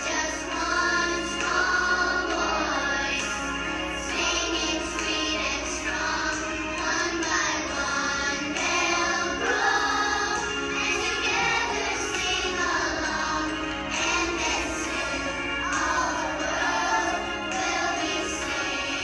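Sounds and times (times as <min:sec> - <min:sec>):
children singing: 0:00.0 - 0:19.0
musical accompaniment: 0:00.0 - 0:19.0.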